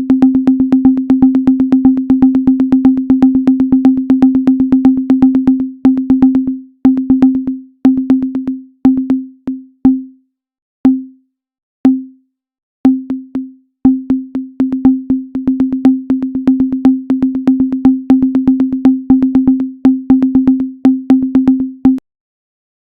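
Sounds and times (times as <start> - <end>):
electronic sine tone pulses: 0.0 - 10.1, 12.9 - 22.0.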